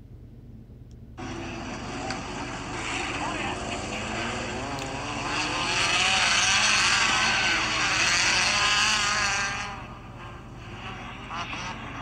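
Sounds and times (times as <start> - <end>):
race car engines passing: 1.2 - 12.0.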